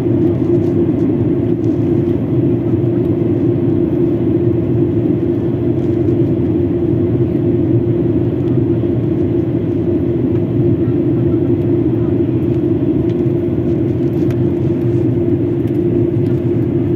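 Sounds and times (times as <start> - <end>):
airliner engines rumbling: 0.0 - 16.9
constant low hum: 0.0 - 16.9.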